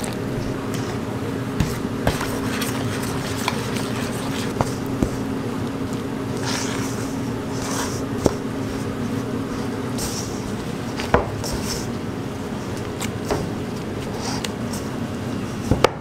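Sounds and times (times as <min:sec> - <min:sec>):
hands mixing dough in bowl: 0:00.0 - 0:15.9
steady low hum: 0:00.0 - 0:16.0.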